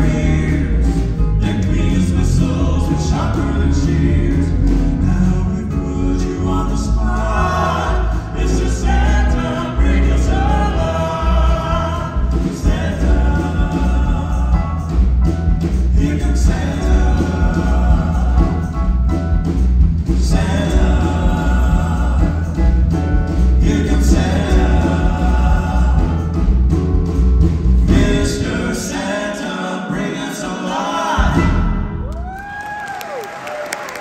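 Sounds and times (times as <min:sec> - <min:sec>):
vocal group singing in harmony: 0:00.0 - 0:32.0
gospel band with pulsing bass: 0:00.0 - 0:34.0.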